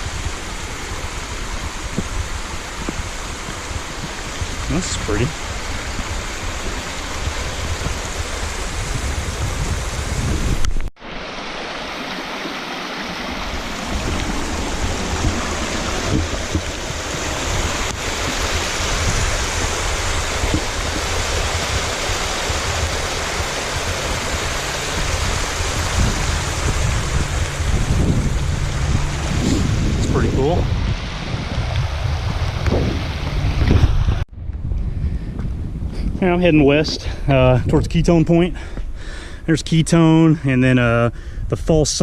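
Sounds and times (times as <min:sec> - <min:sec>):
creek rushing over small waterfall: 0:00.0 - 0:34.2.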